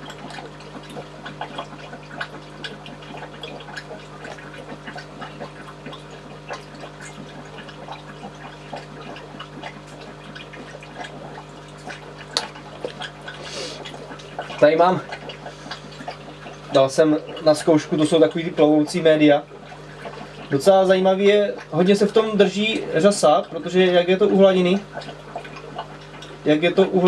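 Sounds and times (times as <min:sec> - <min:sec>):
aquarium water bubbling: 0:00.0 - 0:27.0
small water plinks: 0:00.0 - 0:27.0.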